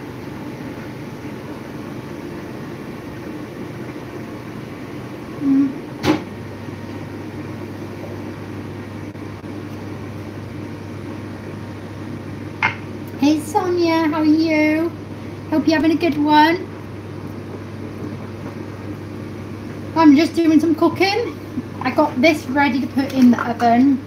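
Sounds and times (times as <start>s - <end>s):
lower hum: 0.0s - 23.2s
kitchen appliance humming: 0.0s - 24.0s.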